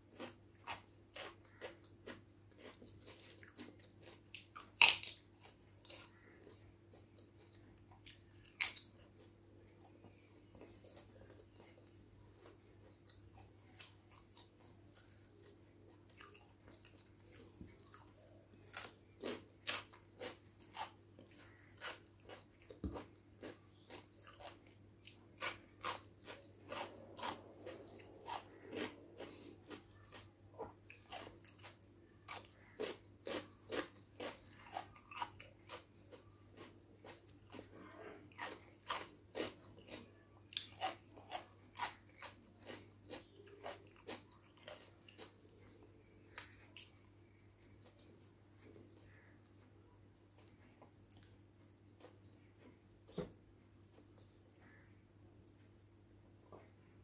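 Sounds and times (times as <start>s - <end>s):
chewing with wet smacks: 0.1s - 54.9s.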